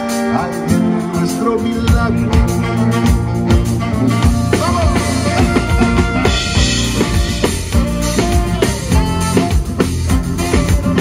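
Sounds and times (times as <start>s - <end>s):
drum kit steady beat: 0.0s - 11.0s
live band playing: 0.0s - 11.0s.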